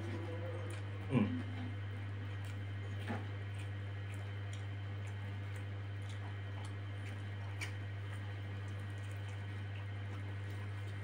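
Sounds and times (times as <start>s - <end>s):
low electrical hum: 0.0s - 11.0s
wet eating and chewing sounds: 0.0s - 11.0s.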